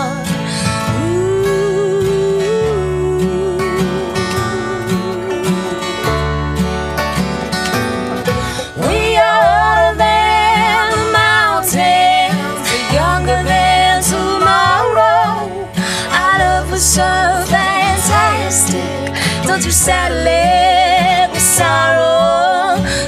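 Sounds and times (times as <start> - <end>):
strummed acoustic guitar: 0.0 - 23.0
long wavering held melody notes: 0.8 - 22.8.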